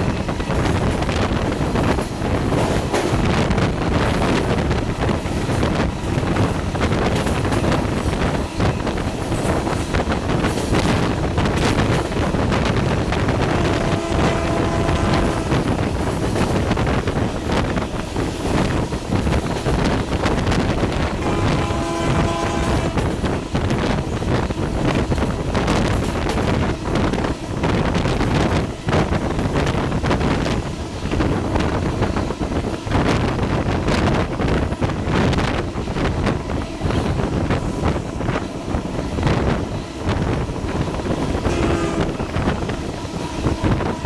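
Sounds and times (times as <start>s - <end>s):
train rumble with rail clatter: 0.0s - 44.0s
wind buffeting microphone: 0.0s - 44.0s.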